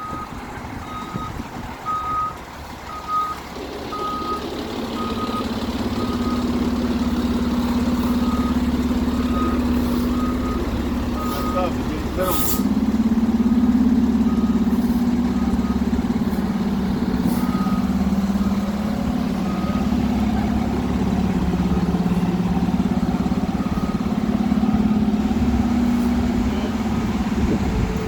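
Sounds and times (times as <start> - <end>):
reversing alarm beeping: 0.0 - 12.2, 14.2 - 26.7
diesel engine drone: 0.0 - 28.0.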